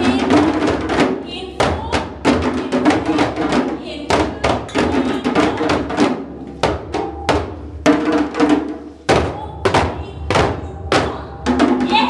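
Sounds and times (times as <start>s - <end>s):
djembes played by hand: 0.0s - 12.0s.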